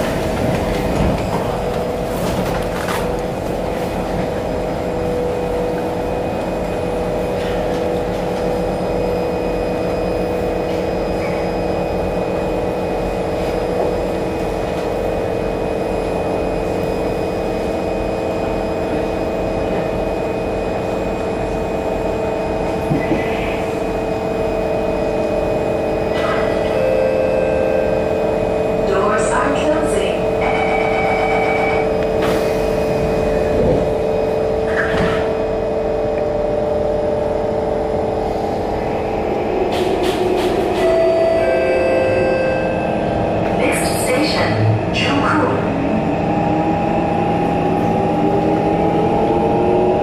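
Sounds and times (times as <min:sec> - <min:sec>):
train equipment humming: 0:00.0 - 0:50.0.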